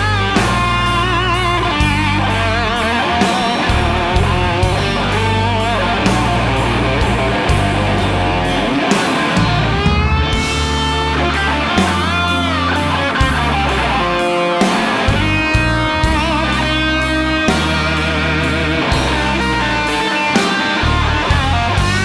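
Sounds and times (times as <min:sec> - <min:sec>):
drums: 0:00.0 - 0:22.0
electric bass: 0:00.0 - 0:22.0
electric guitar lead with vibrato: 0:00.0 - 0:22.0
keyboard: 0:00.0 - 0:22.0.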